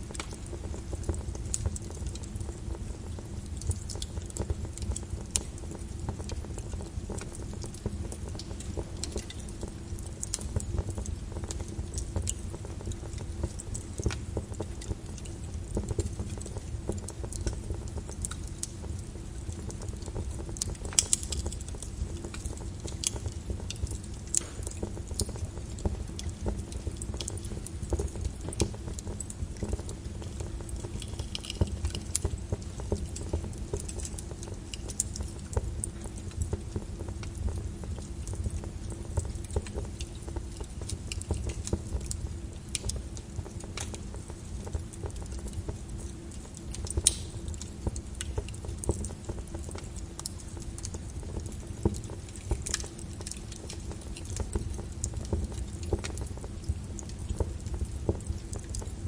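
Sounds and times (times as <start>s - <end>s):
lava crackling and clinking: 0.0s - 59.0s.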